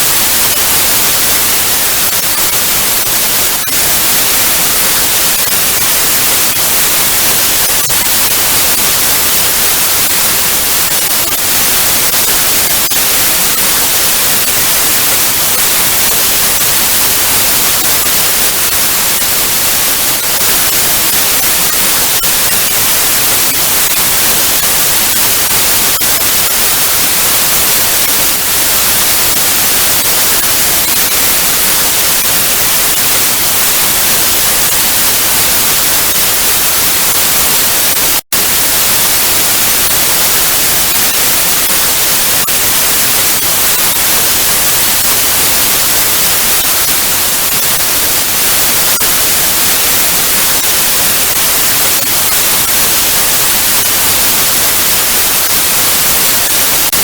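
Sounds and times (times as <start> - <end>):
tv static hiss: 0.0 - 57.0.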